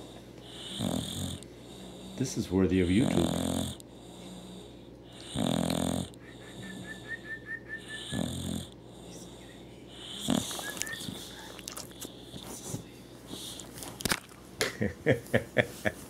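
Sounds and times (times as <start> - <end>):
dog snoring: 0.0 - 13.7.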